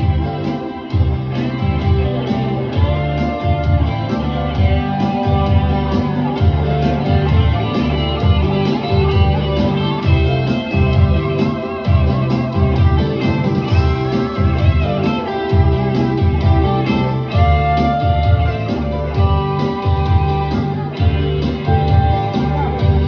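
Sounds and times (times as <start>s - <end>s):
instrumental guitar music: 0.0s - 23.0s
rhythmic bass line: 0.0s - 23.0s.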